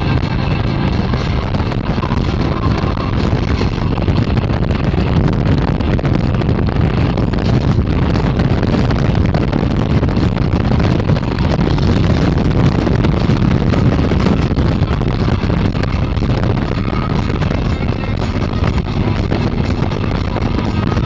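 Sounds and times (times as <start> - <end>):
motorcycle road and engine noise: 0.0 - 21.0
wind noise on microphone: 0.0 - 21.0.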